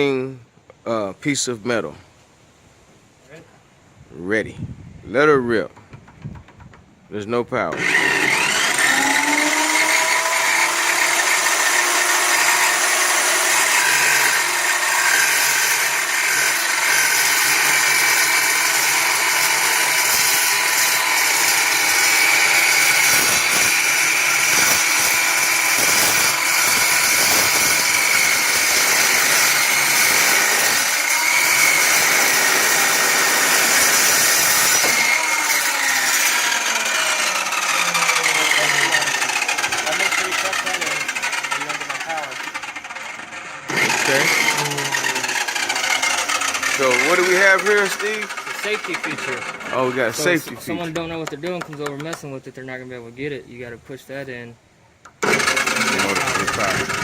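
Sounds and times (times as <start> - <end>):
chop saw cutting metal: 7.7 - 52.2, 55.1 - 57.0.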